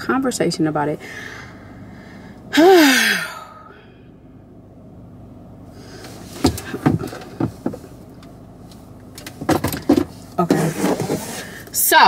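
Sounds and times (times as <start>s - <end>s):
faint car cabin hum: 0.0s - 12.0s.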